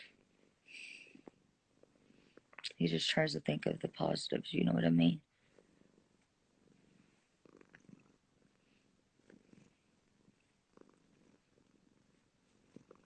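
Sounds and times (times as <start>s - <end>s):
faint cat purring: 0.0s - 13.0s.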